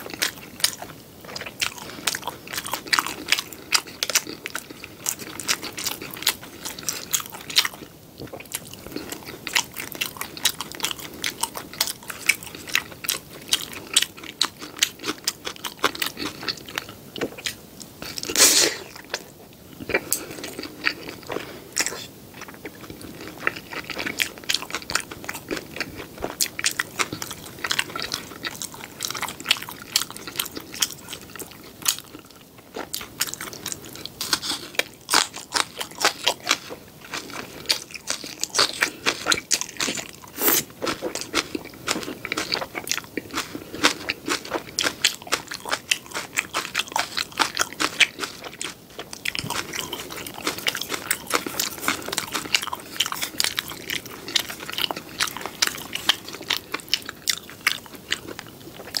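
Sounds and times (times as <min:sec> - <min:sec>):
crunching and wet chewing: 0:00.0 - 0:59.0.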